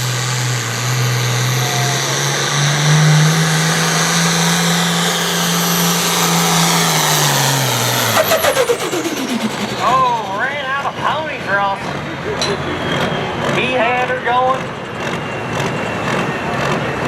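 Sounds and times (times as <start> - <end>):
diesel tractor engine under load: 0.0 - 17.0.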